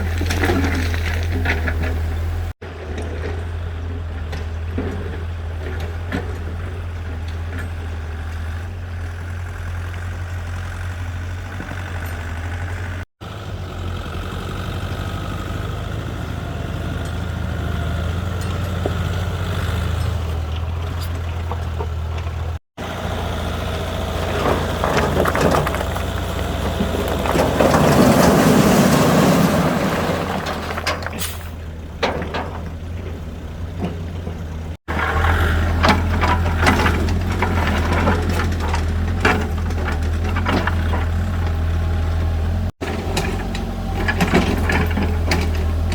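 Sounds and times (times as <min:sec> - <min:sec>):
excavator diesel engine running: 0:00.0 - 0:45.9
soil and rock scraping and rattling: 0:00.0 - 0:45.9.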